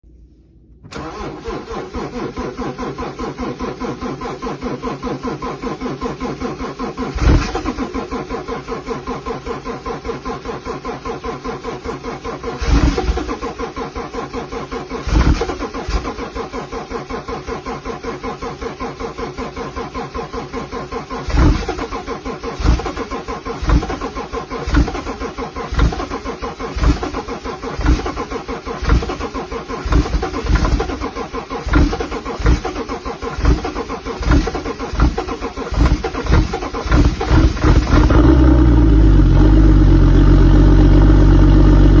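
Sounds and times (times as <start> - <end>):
starter cranking engine: 0.9 - 42.0
car engine running: 2.5 - 42.0.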